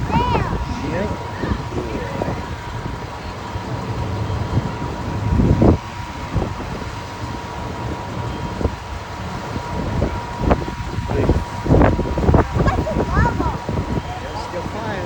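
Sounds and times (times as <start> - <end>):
vehicle engines running: 0.0 - 15.0
wind on microphone: 0.0 - 15.0.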